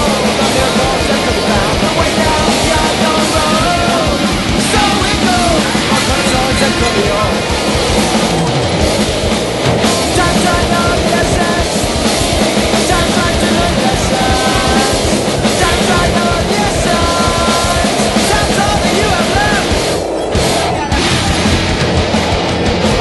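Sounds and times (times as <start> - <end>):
loud rock music with drums: 0.0 - 23.0.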